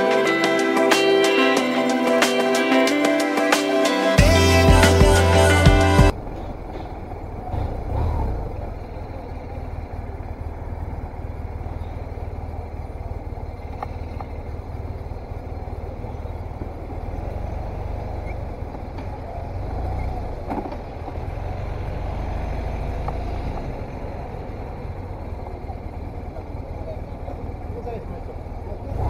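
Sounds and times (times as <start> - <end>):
motorcycle engine rumbling: 4.2 - 29.0.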